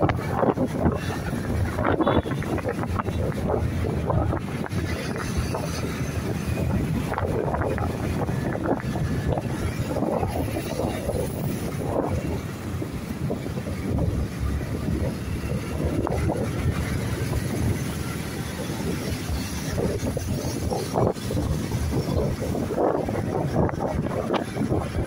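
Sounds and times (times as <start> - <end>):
vehicle road noise: 0.0 - 25.0
wind buffeting microphone: 0.0 - 25.0.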